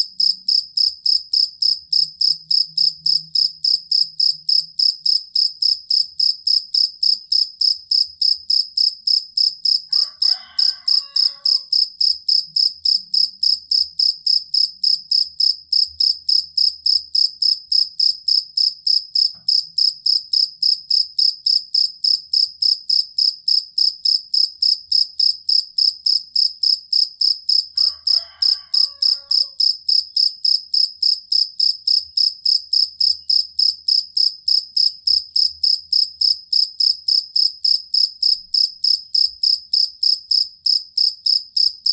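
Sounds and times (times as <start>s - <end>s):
cricket chirping: 0.0s - 41.9s.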